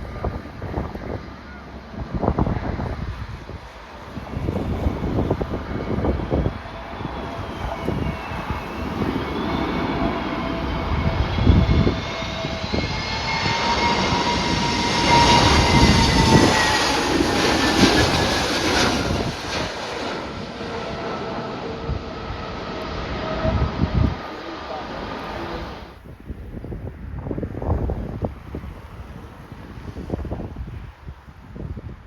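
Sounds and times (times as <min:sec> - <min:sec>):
airliner engines whining: 0:00.0 - 0:26.1
wind buffeting microphone: 0:00.0 - 0:32.0.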